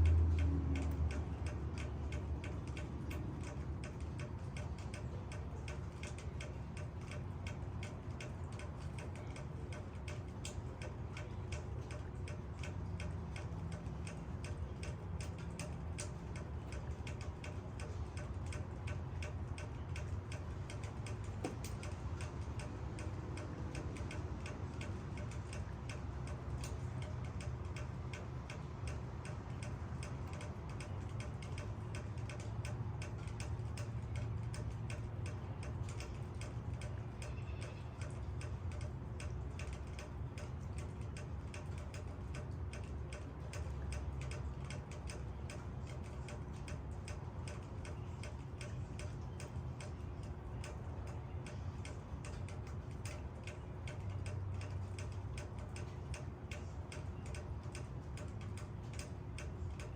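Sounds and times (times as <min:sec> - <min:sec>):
low rain rumble: 0:00.0 - 0:59.9
raindrops tapping on leaves: 0:07.8 - 0:59.9.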